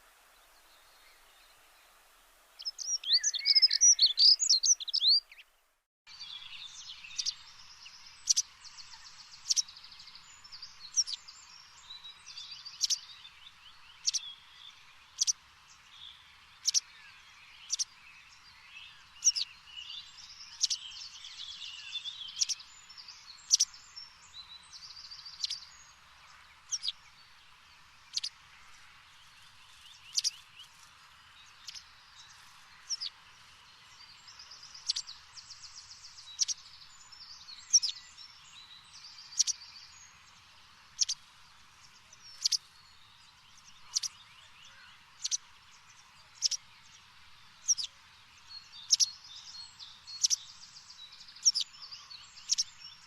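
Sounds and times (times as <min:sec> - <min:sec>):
birds chirping and twittering: 0:00.0 - 0:53.0
faint steady hiss: 0:00.0 - 0:53.0.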